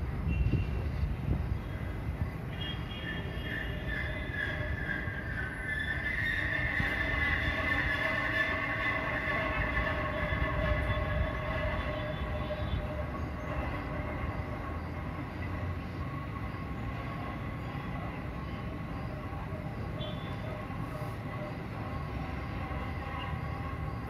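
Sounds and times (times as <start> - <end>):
machinery metallic whine: 3.0 - 24.0
machinery low rumble: 3.2 - 24.0.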